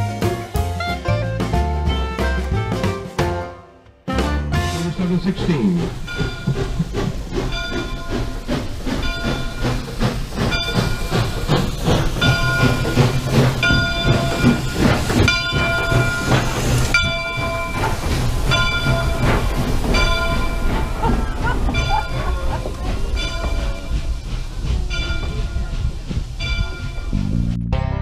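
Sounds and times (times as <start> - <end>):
steam locomotive rumble and hiss: 0.0 - 3.0, 4.2 - 27.6
locomotive bell ringing: 4.6 - 27.3.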